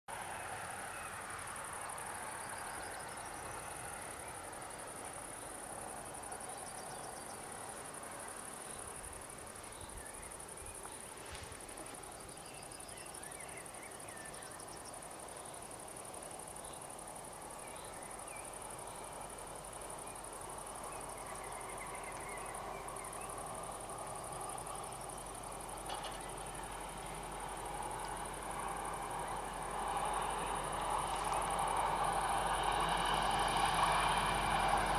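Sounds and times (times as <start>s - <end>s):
crickets trilling: 0.1s - 34.9s.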